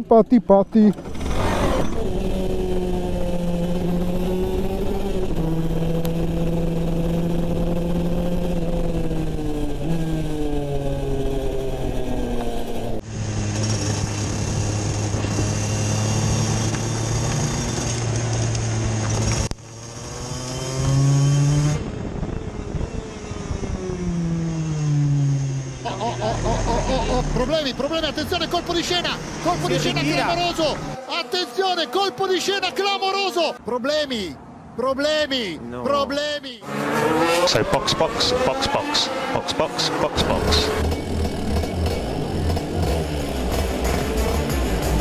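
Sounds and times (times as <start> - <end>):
go-kart engine running hard: 0.9 - 32.7, 36.6 - 45.0.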